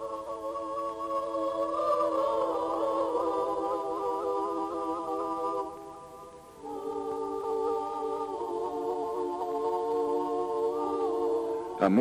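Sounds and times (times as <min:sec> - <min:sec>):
wordless choir sustained chords: 0:00.0 - 0:12.0.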